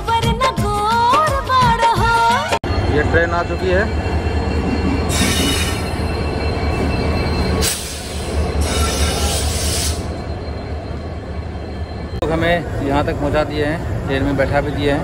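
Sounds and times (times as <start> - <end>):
train engine and wheel rumble: 2.6 - 15.0
wheels and brakes screeching: 2.7 - 15.0.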